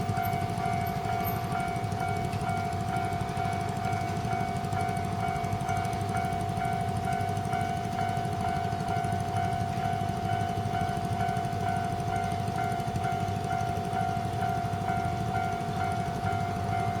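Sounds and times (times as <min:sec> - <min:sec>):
level crossing warning bell: 0:00.0 - 0:17.0
low rumble of traffic: 0:00.0 - 0:17.0.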